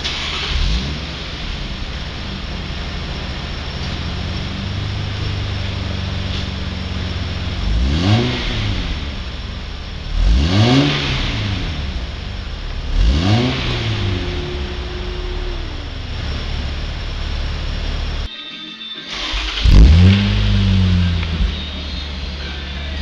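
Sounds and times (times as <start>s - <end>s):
car exhaust idling: 0.0s - 18.3s, 19.2s - 23.0s
engine throttle blips: 0.0s - 18.3s, 19.1s - 23.0s.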